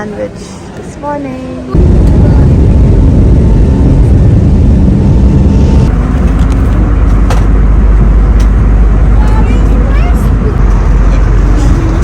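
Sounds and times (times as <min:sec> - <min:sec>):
airliner cabin engine rumble: 0:01.7 - 0:12.0.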